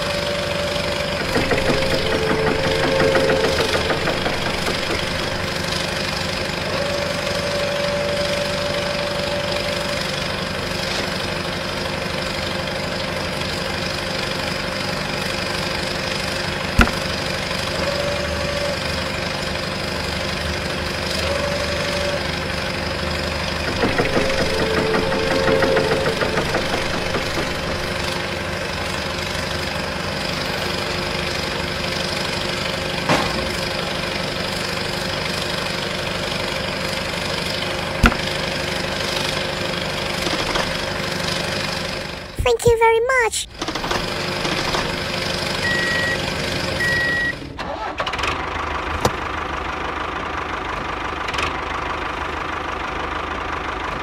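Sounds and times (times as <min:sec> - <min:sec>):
engine idling: 0:00.0 - 0:42.4, 0:43.5 - 0:54.0.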